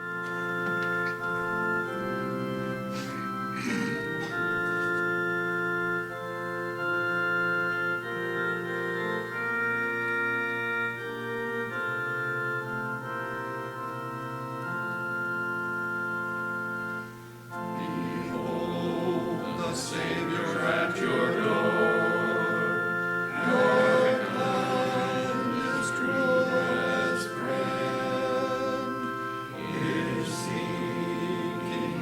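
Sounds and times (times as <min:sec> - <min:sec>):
church organ playing hymn chords: 0:00.0 - 0:32.0.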